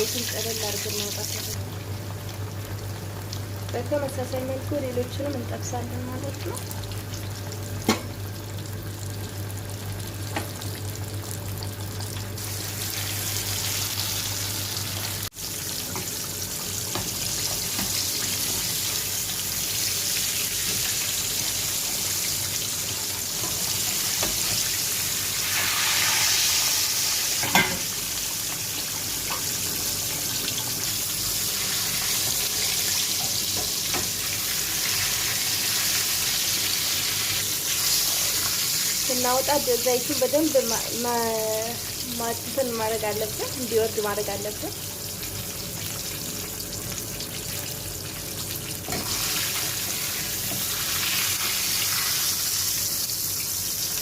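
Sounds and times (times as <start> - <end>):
fish sizzling in hot oil: 0.0 - 54.0.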